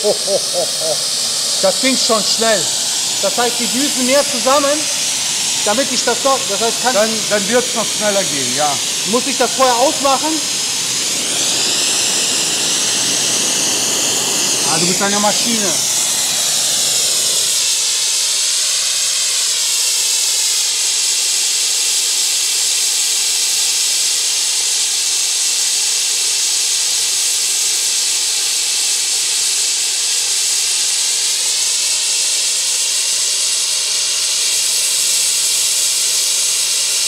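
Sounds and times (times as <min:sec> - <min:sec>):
propane torch hissing: 0:00.0 - 0:37.0.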